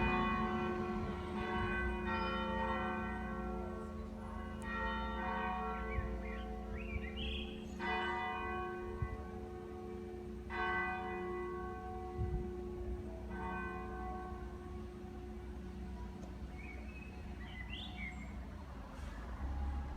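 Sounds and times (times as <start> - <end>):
church bell tolling: 0.0 - 16.5.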